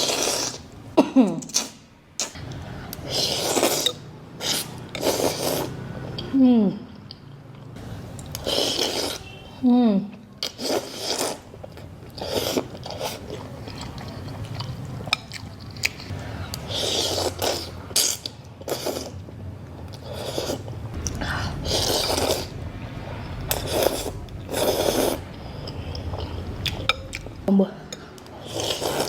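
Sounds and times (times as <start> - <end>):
person slurping and chewing noodles: 0.0 - 0.7, 1.3 - 6.3, 8.0 - 9.5, 10.4 - 29.0.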